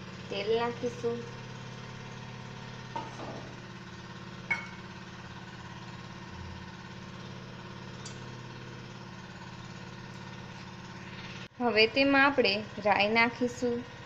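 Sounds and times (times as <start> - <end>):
motor humming: 0.0 - 11.5.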